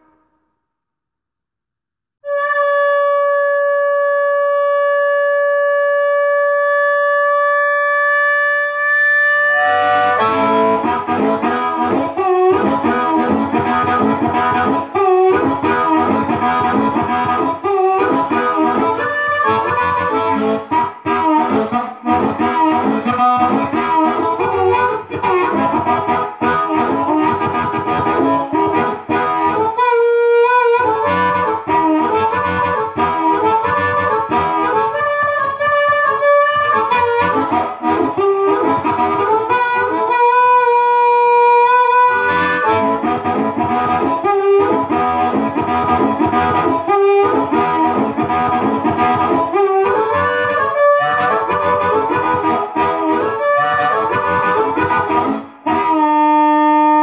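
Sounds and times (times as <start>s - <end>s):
amplified blues harmonica: 2.2s - 57.0s.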